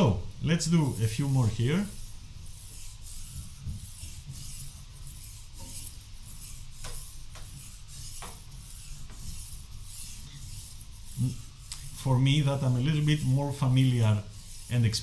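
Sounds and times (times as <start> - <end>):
knife rasping on sharpening stone: 1.9 - 14.8.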